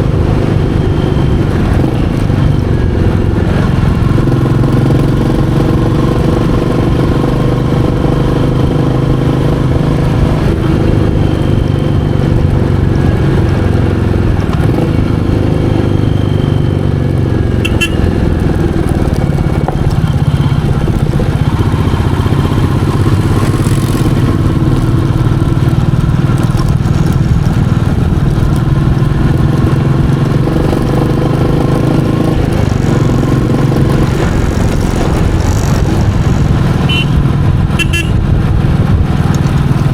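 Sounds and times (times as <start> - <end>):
single-cylinder motorcycle engine: 0.0 - 39.9.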